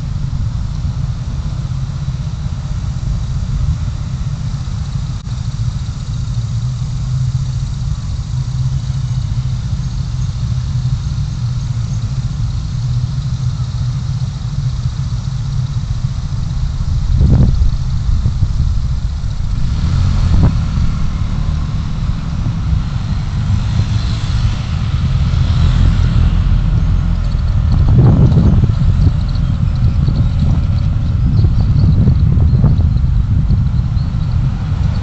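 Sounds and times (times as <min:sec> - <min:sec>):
car engine drone: 0:00.0 - 0:35.0
road noise: 0:00.0 - 0:35.0.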